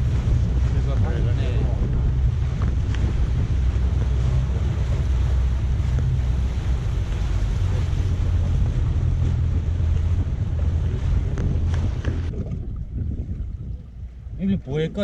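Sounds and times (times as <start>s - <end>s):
outboard motor drone: 0.0s - 15.0s
water washing along hull: 0.0s - 15.0s
wind over microphone: 0.0s - 15.0s.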